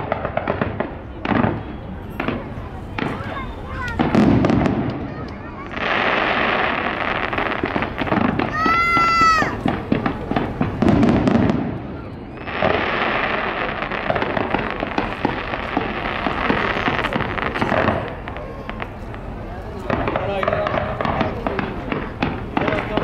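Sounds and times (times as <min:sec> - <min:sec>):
fireworks crackling and popping: 0:00.0 - 0:23.0.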